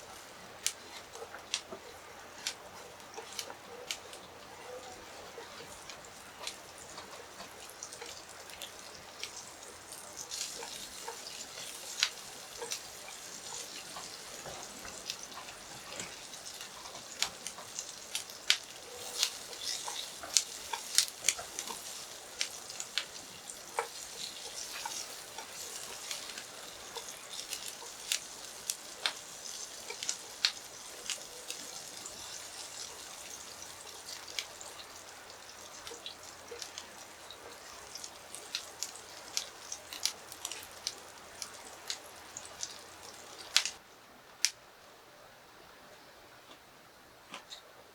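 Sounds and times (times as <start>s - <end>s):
fire popping and crackling: 0.0s - 43.8s
food sizzling on grill: 0.0s - 43.8s.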